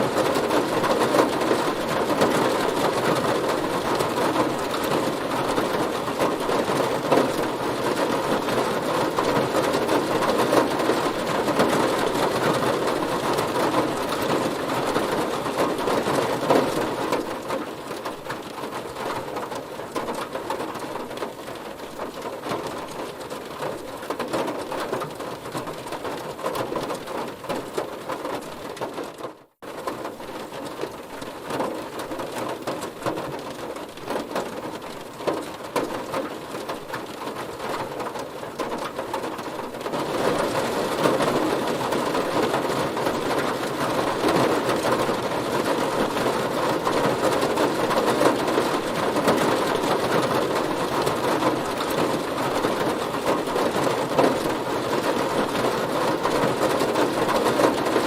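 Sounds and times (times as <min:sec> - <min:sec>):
heavy rain on a car: 0:00.0 - 0:58.0.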